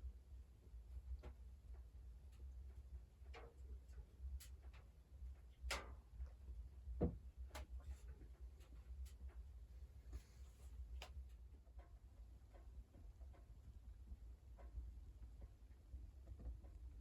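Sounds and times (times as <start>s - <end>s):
faint irregular clicks: 1.0s - 6.5s, 7.4s - 9.5s, 10.8s - 17.0s.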